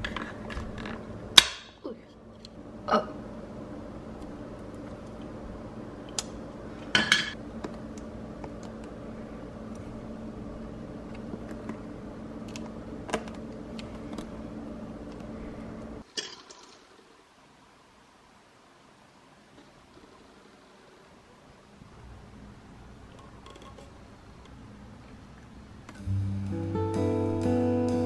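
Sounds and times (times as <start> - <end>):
steady low hum: 0.0 - 16.1, 20.4 - 28.0.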